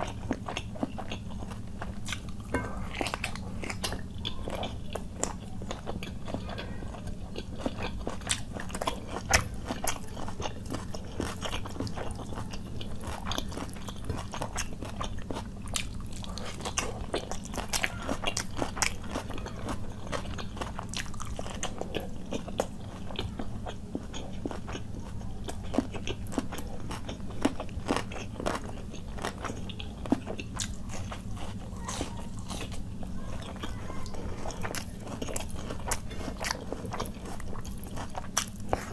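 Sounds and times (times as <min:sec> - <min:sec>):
chewing and crunching: 0:00.0 - 0:38.9
steady low hum: 0:00.0 - 0:38.9.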